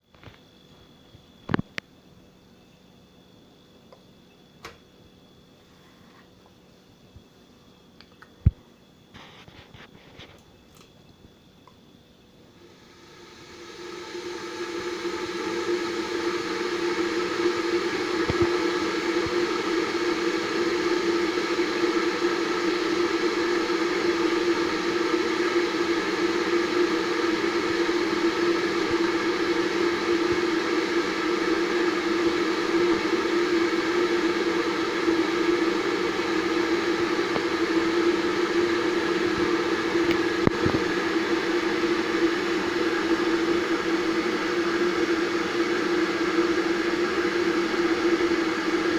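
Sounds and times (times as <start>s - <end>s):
electric kettle heating water: 3.1s - 5.5s, 6.2s - 48.9s.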